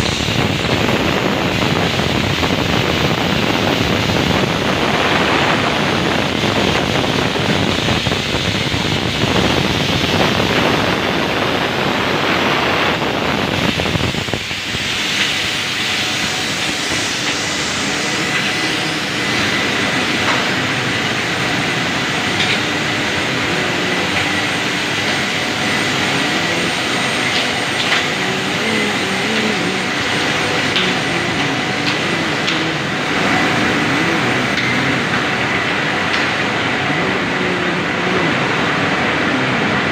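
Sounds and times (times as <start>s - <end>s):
industrial machinery running: 0.0s - 39.9s
thin steady whine: 0.0s - 39.9s.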